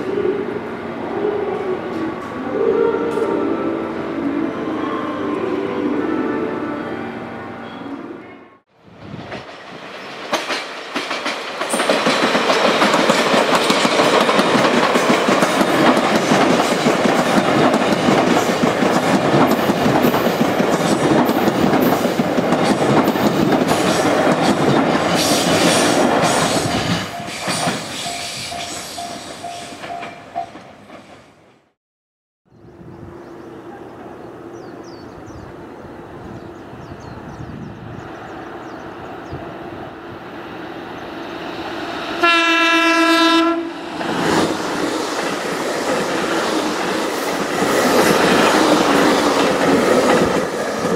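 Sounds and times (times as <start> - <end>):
train passing: 0.0 - 31.8, 32.6 - 50.9.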